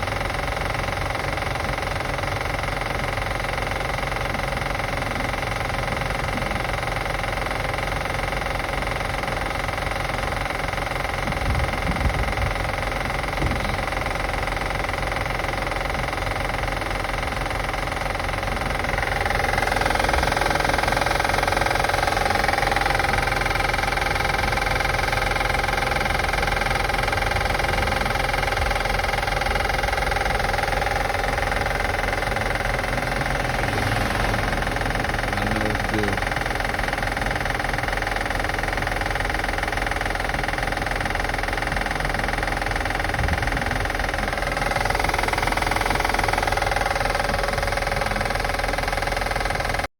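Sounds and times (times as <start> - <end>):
car engine idling: 0.0 - 49.9
engine clicking noise: 0.0 - 49.9.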